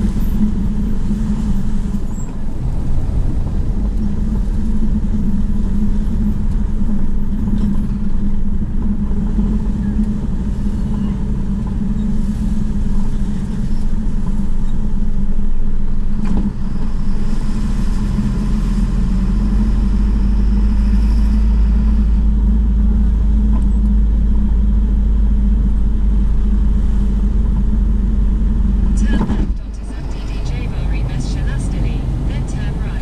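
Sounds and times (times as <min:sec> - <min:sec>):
car engine and tyres humming: 0:00.0 - 0:33.0.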